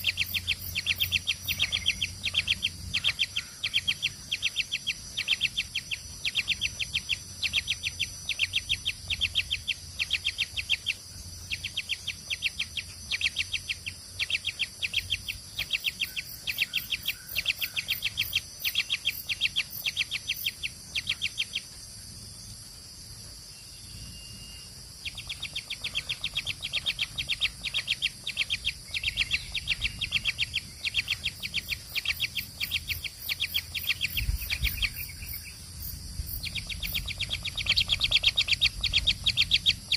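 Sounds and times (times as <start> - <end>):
baby birds begging chirps: 0.0 - 21.7, 24.4 - 39.9.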